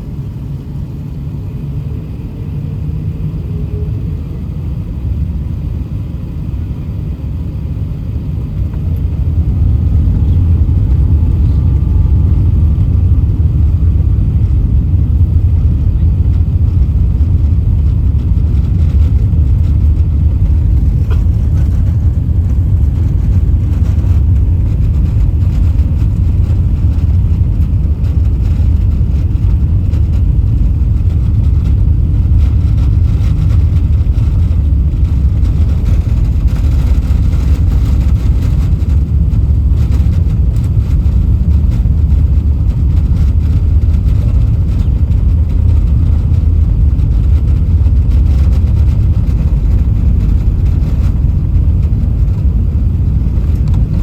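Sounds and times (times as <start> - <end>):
jet engines and airflow rumble: 0.0 - 54.0.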